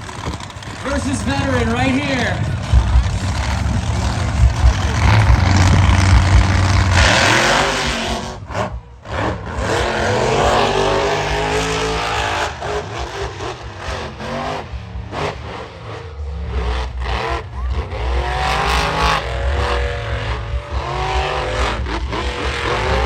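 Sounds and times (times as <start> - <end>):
monster truck engines revving: 0.0 - 23.0.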